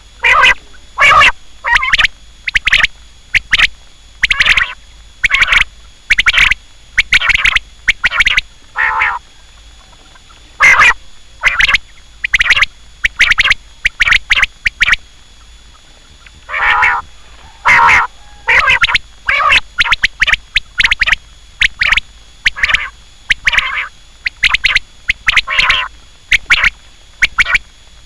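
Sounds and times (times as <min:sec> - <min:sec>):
quail calling: 0:00.2 - 0:15.5, 0:16.2 - 0:27.6.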